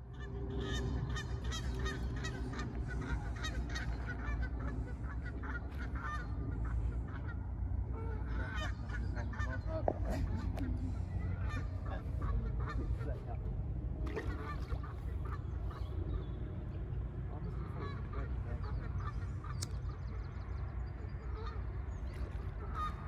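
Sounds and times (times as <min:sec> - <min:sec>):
geese honking: 0:00.0 - 0:23.0
steady low rumble: 0:00.0 - 0:23.0.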